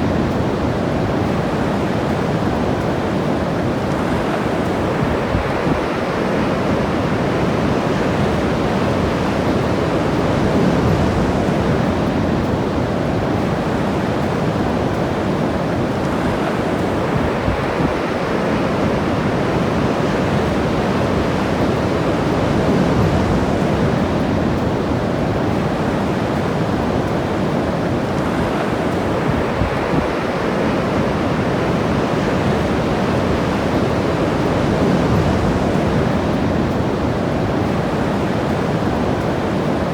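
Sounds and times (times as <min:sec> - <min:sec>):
ocean surf breaking: 0:00.0 - 0:39.9
wind on microphone: 0:00.0 - 0:39.9.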